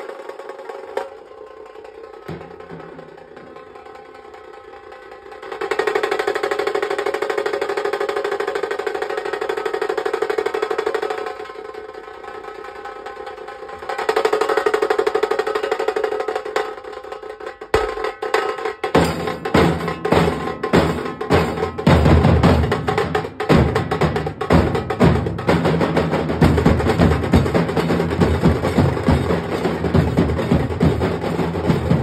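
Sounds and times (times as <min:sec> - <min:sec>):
fast loud drumming: 0:00.0 - 0:32.0.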